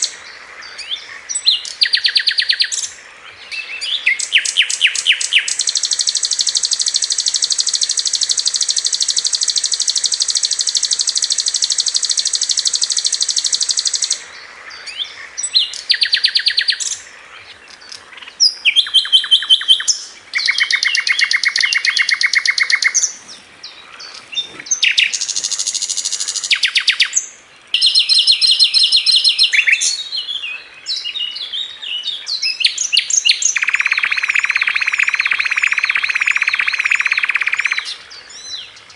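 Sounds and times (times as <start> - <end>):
flycatcher singing rapid trills: 0.8 - 17.1, 17.7 - 23.2, 24.0 - 30.3, 32.4 - 38.0.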